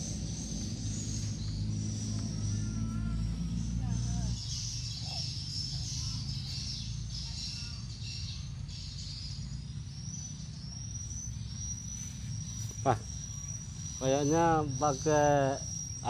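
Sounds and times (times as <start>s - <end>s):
high-pitched chirping: 0.0s - 16.0s
steady low rumble: 0.0s - 16.0s.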